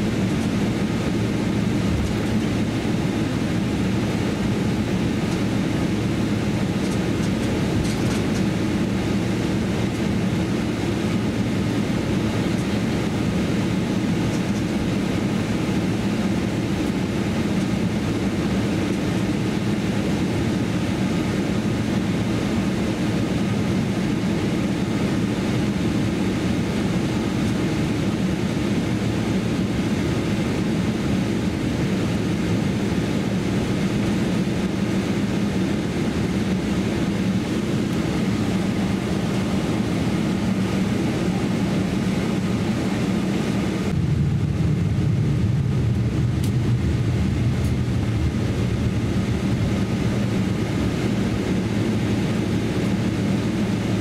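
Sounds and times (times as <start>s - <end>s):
airplane cabin rumble: 0.0s - 54.0s
jet engines at low power: 0.0s - 54.0s.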